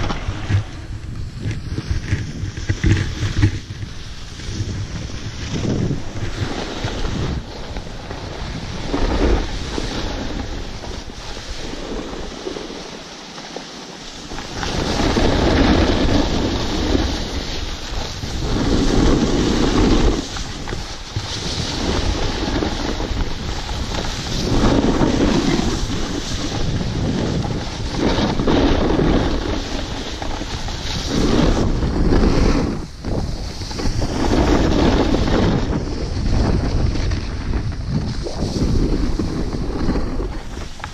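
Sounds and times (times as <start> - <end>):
skis scraping packed snow: 0.0 - 40.9
wind rushing over microphone: 0.0 - 40.9.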